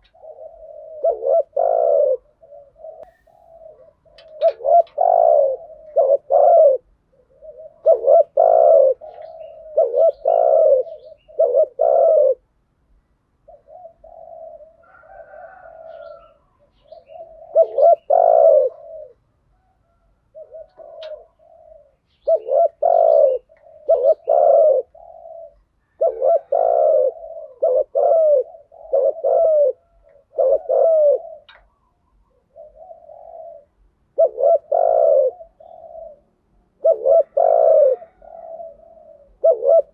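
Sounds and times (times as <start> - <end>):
doves cooing: 0.0 - 12.5, 13.4 - 39.9.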